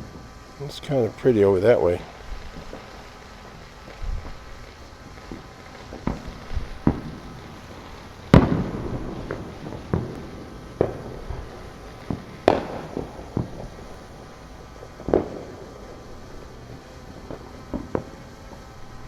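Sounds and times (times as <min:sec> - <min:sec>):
fireworks and firecrackers banging: 0:00.0 - 0:19.0.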